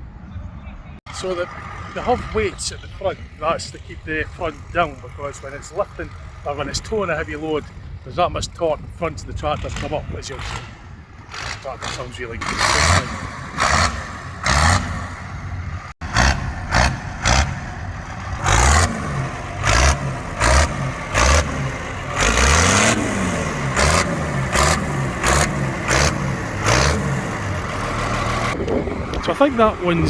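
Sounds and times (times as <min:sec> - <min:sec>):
tractor engine revving: 0:01.1 - 0:08.5, 0:09.2 - 0:30.0.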